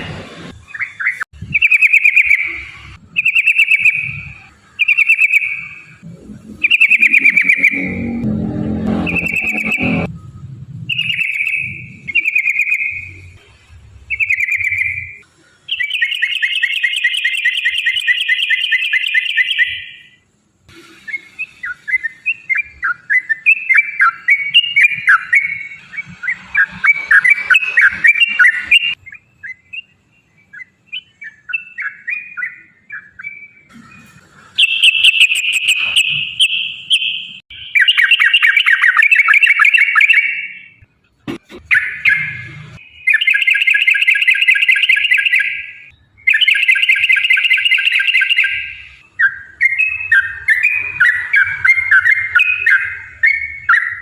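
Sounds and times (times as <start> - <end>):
bird singing trills: 0.7 - 10.1, 10.8 - 13.4, 14.1 - 20.2, 21.1 - 40.8, 41.7 - 54.0.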